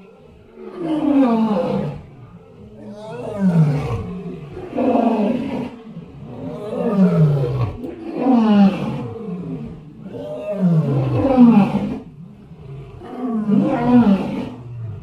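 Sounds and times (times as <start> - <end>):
lion roaring: 0.0 - 15.0.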